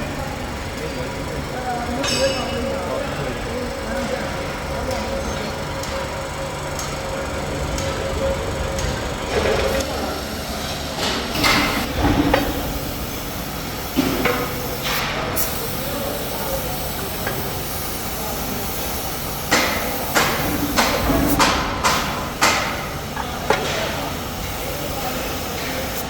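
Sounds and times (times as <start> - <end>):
workshop background noise: 0.0 - 26.0.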